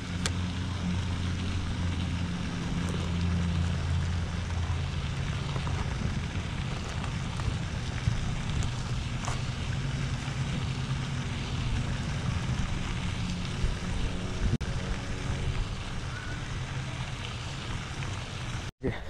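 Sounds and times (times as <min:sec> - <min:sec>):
wind buffeting microphone: 0:00.0 - 0:16.6
faint engine drone: 0:00.0 - 0:19.0.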